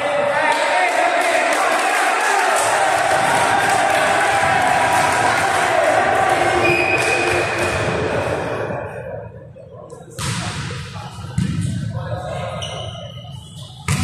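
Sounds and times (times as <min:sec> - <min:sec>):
voices echoing in a hall: 0:00.0 - 0:14.0.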